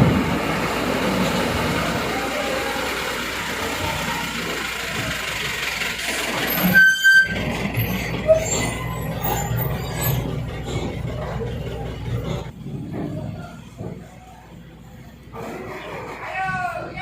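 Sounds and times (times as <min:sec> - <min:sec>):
heavy truck engine running: 0:00.0 - 0:16.2.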